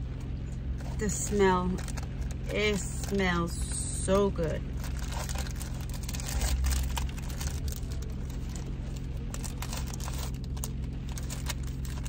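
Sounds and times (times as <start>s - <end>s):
low hum inside a car: 0.0s - 12.0s
plastic wrapper crinkling: 0.6s - 3.7s, 4.6s - 12.0s.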